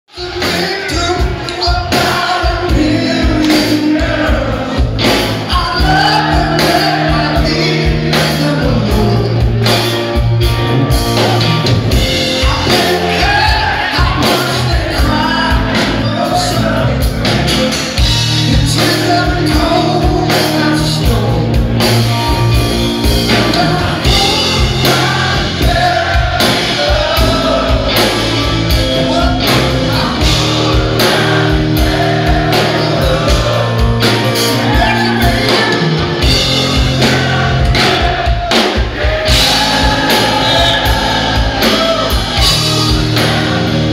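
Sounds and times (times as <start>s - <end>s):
man singing: 0.1s - 11.6s, 12.2s - 22.1s, 23.2s - 43.9s
bass guitar: 0.1s - 43.9s
distorted electric guitar: 0.1s - 43.9s
drums: 0.1s - 43.9s.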